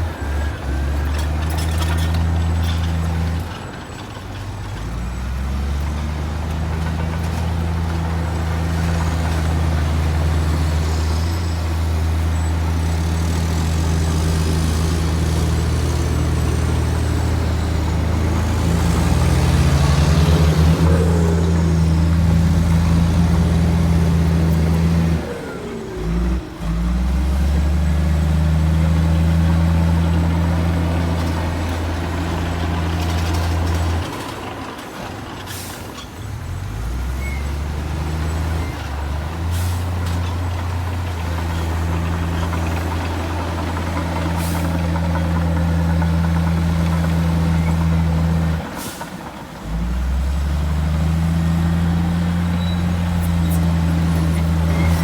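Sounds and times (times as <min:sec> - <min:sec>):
heavy diesel engine rumbling: 0:00.0 - 0:55.0.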